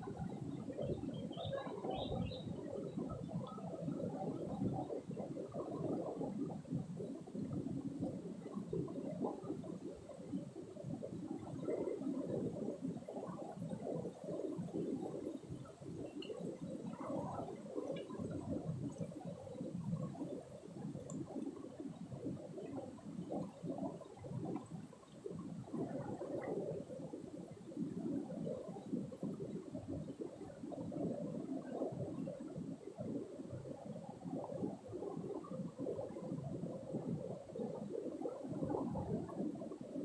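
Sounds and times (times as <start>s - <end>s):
stream water gurgling over rocks: 0.0s - 40.0s.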